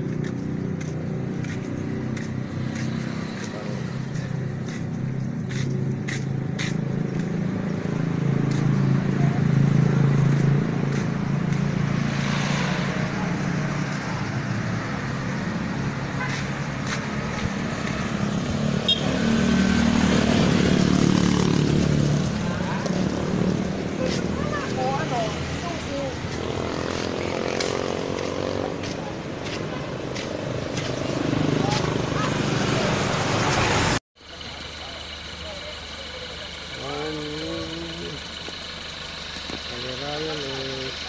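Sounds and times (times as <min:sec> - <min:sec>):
truck engines running: 0:00.0 - 0:41.0.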